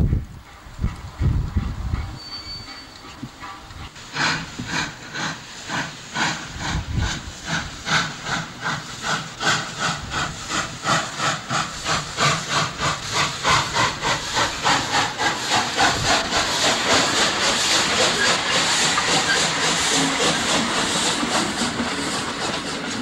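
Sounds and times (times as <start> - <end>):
steam locomotive exhaust chuffing: 0.0 - 23.0
steam hiss: 0.4 - 23.0.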